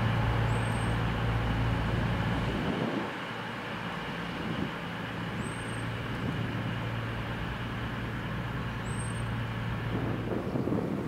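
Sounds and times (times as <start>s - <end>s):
train diesel engines humming: 0.0s - 11.0s.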